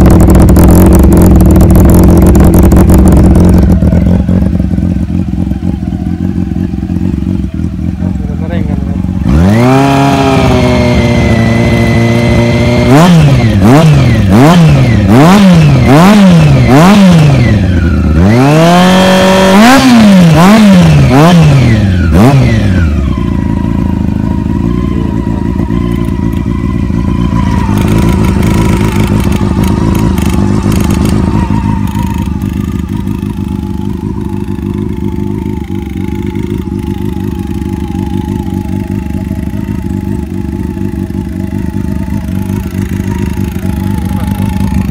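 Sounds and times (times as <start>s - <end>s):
motorcycle engine idling: 0.0s - 44.9s
motorcycle engine revving: 0.0s - 44.9s.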